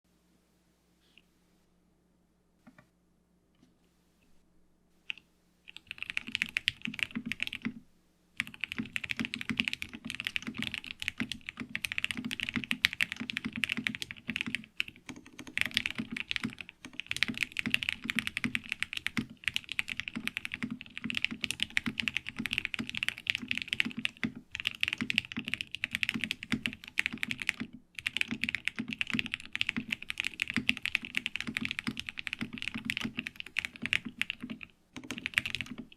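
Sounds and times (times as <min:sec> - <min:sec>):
mechanical keyboard typing: 0:05.1 - 0:07.8, 0:08.4 - 0:35.9.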